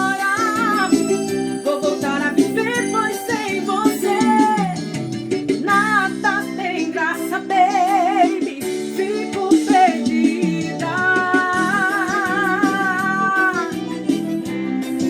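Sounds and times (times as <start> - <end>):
person singing with vibrato: 0.0 - 14.0
instrumental accompaniment: 0.0 - 15.0.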